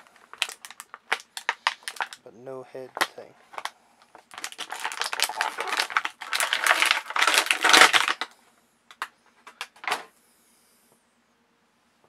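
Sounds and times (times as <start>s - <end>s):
plastic packaging crackling: 0.0s - 10.1s.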